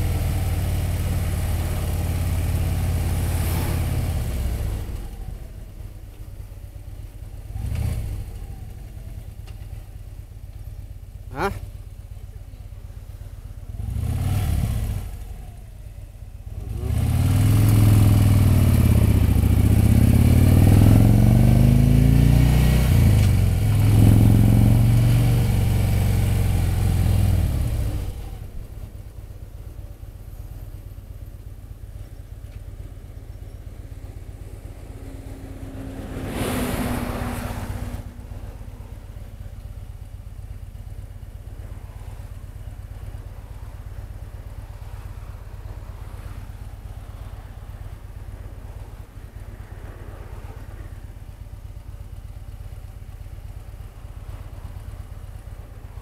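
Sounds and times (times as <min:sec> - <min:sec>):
motorcycle engine revving: 0:00.0 - 0:06.5, 0:07.2 - 0:09.8, 0:13.5 - 0:56.0.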